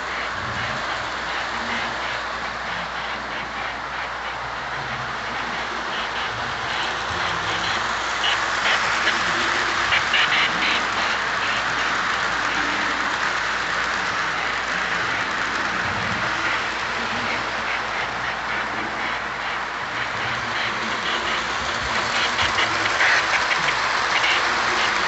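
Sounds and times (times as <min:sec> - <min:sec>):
toy train cars rolling on track: 0:00.0 - 0:25.0
wheels clicking over rail joints: 0:00.0 - 0:25.0.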